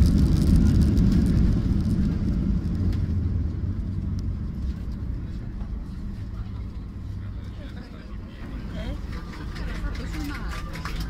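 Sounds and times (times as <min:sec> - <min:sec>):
low rumble of engines and wheels: 0:00.0 - 0:11.0.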